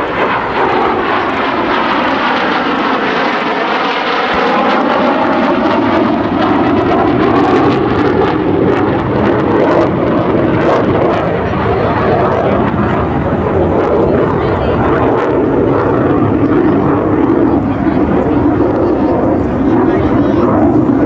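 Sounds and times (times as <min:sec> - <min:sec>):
jet roaring past: 0:00.0 - 0:21.0.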